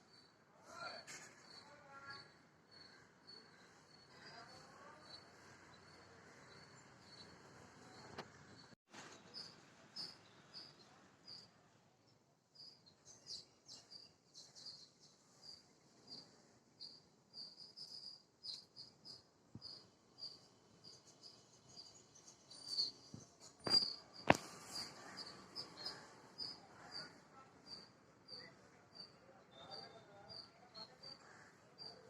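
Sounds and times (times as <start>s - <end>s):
small bird chirping: 0.0s - 11.6s, 12.5s - 32.0s.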